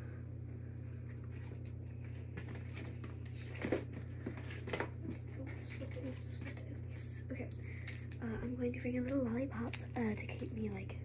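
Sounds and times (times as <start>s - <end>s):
ceiling fan hum: 0.0s - 11.0s.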